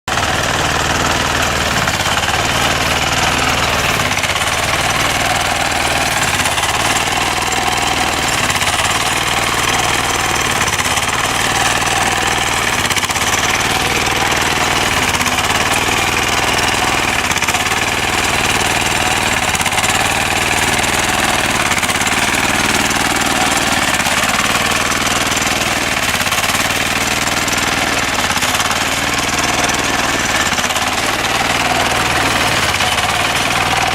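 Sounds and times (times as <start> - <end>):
hay baler engine knocking: 0.1 - 33.9.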